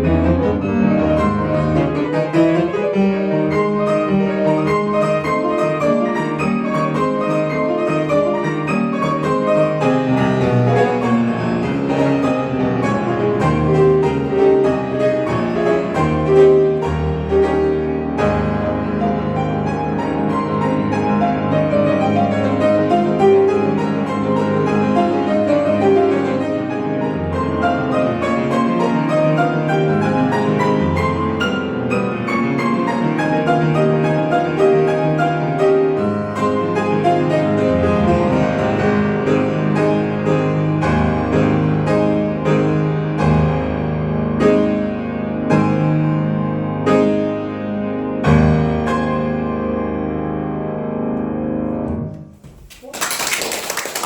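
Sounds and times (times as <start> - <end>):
solo classical piano: 0.0 - 54.0.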